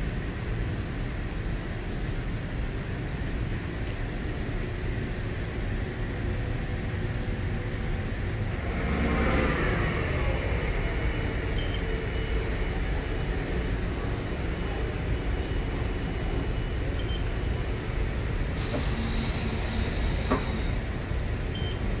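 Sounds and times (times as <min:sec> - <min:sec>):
machining center hum: 0:00.0 - 0:22.0.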